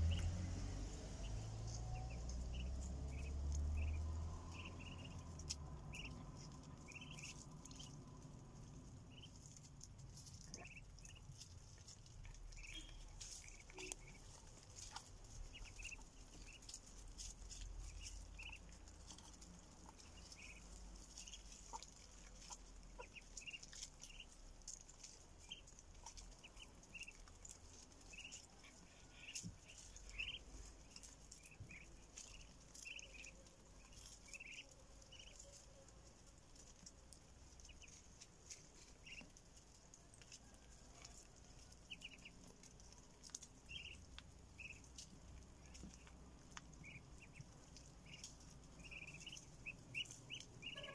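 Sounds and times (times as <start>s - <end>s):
ducklings peeping: 0.0s - 50.9s.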